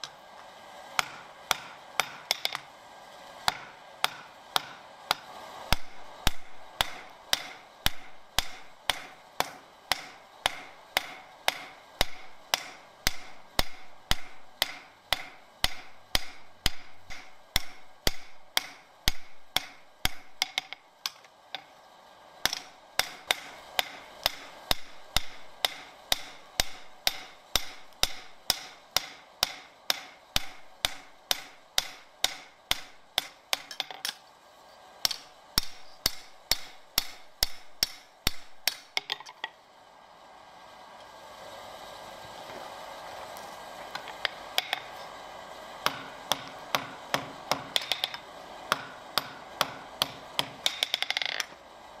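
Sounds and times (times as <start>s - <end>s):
hammer striking steel on anvil: 1.0s - 2.7s, 3.4s - 21.7s, 22.4s - 34.2s, 35.0s - 39.5s, 44.0s - 45.1s, 45.8s - 51.6s.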